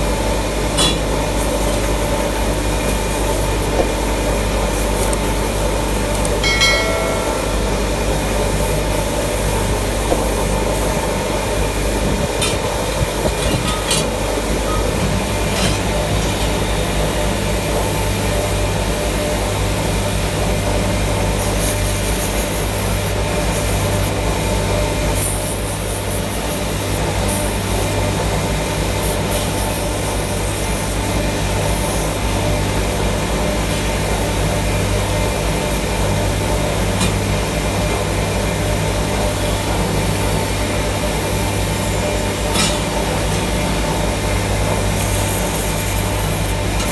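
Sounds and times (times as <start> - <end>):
machinery humming: 0.0 - 46.9.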